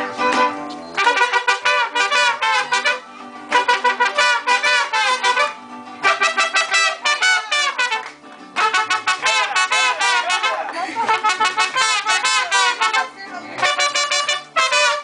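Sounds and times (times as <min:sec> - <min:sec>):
mariachi band playing: 0:00.0 - 0:15.0
trumpets: 0:00.2 - 0:15.0.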